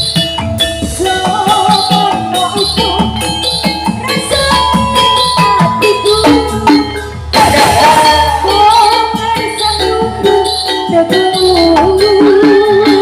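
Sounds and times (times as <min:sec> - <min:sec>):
percussion ensemble over loudspeakers: 0:00.0 - 0:13.0.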